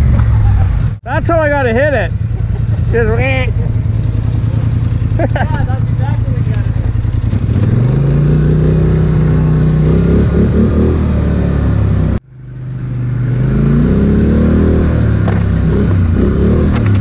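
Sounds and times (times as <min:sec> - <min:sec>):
atv engine running under throttle: 0:01.4 - 0:17.0.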